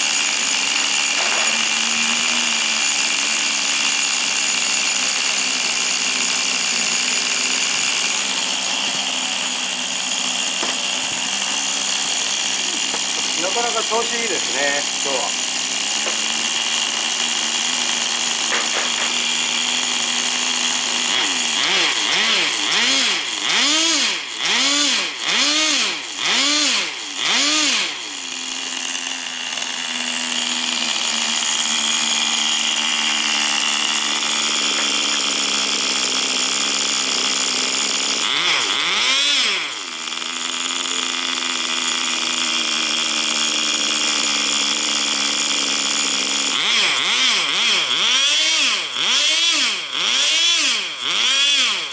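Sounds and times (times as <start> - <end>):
small nitro engine revving: 0.0 - 51.9.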